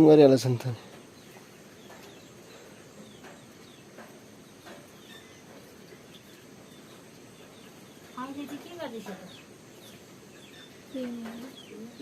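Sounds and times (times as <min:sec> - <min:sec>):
quiet rural background noise: 0:00.0 - 0:12.0.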